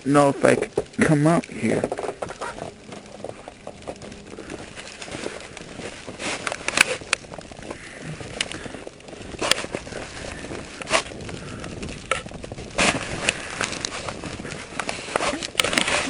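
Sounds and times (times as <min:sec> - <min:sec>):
crackling and clicking: 0:00.0 - 0:16.0.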